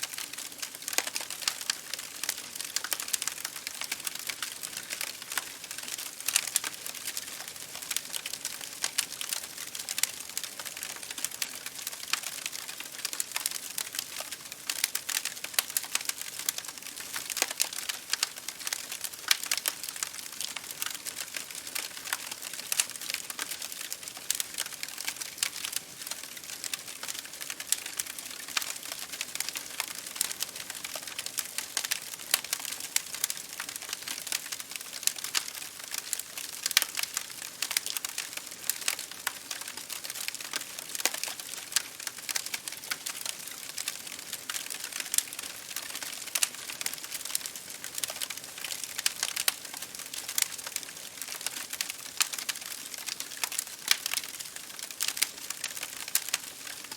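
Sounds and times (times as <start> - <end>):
rain pattering on a window: 0.0 - 56.9
wood fire crackling: 0.0 - 56.9.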